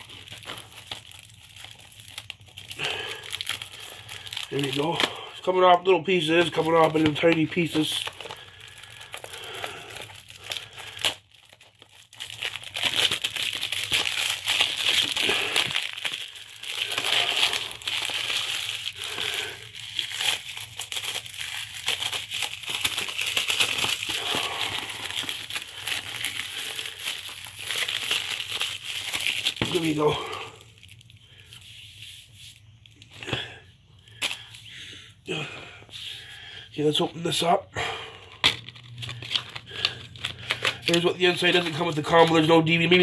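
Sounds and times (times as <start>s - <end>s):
plastic wrap crinkling: 0.0s - 34.6s, 38.3s - 43.0s.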